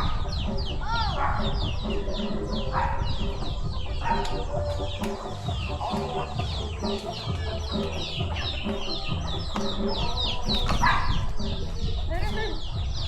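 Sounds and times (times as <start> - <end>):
chickens clucking: 0.0 - 13.0
high falling chirps: 0.0 - 13.0.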